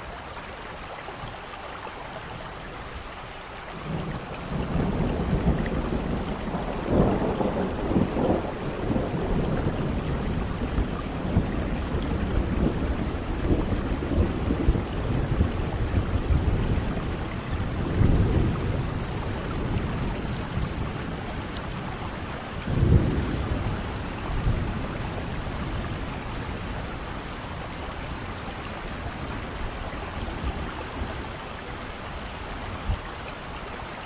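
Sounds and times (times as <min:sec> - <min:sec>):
steady rain falling: 0:00.0 - 0:34.0
thunder rumbling: 0:03.8 - 0:33.2.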